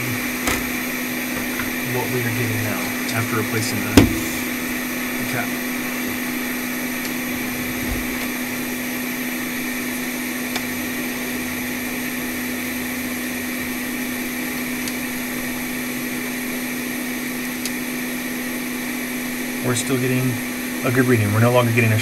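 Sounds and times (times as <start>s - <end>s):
electric blower whirring: 0.0s - 19.6s.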